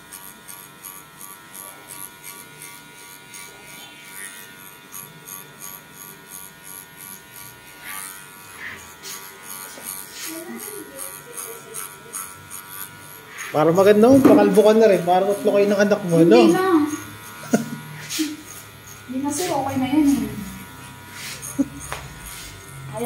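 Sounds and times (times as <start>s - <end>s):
electric hair clippers buzzing: 0.0s - 23.0s.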